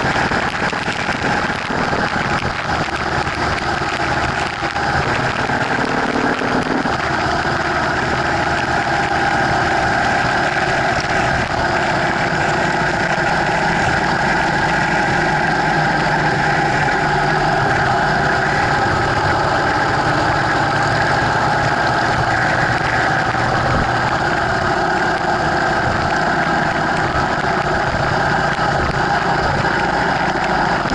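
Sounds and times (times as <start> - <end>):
motorcycle engine running: 0.0 - 30.9
road noise: 0.0 - 30.9
wind noise: 0.0 - 30.9.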